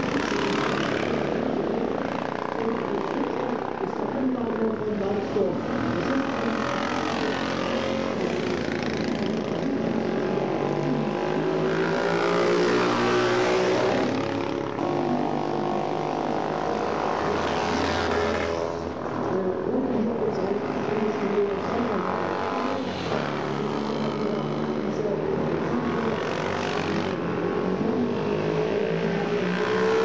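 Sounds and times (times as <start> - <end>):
two-stroke motorcycle engines racing: 0.0 - 30.0.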